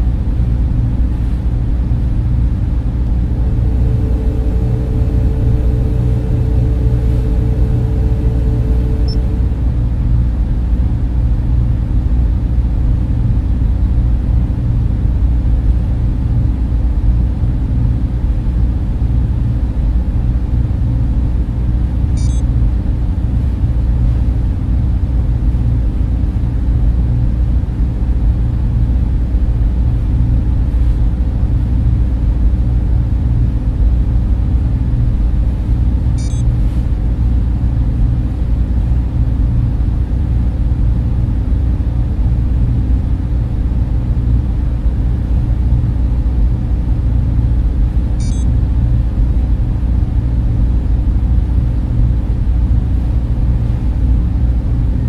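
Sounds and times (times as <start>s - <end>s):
cooling fans droning: 0.0s - 55.0s.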